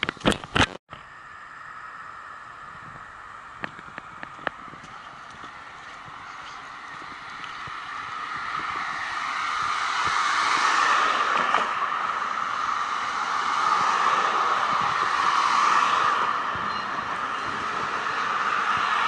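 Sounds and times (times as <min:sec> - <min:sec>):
passing vehicle rush: 0:02.1 - 0:19.0.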